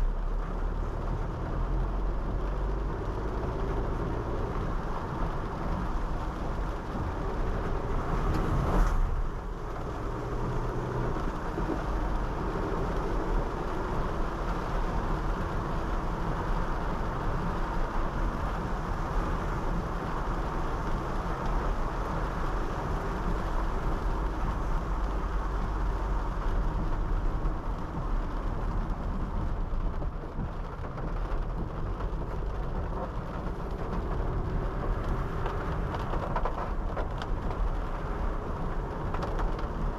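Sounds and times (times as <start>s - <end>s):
deep engine rumble: 0.0s - 39.9s
tyre noise on wet road: 0.0s - 39.9s.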